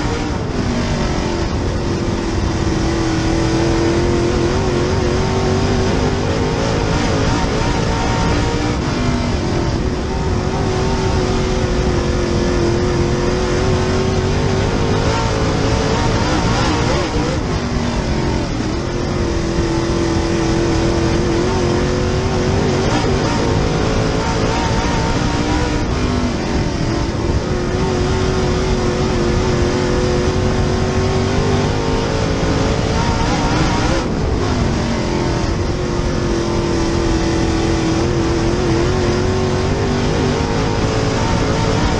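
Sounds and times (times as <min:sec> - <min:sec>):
race car engine running hard: 0:00.0 - 0:41.9.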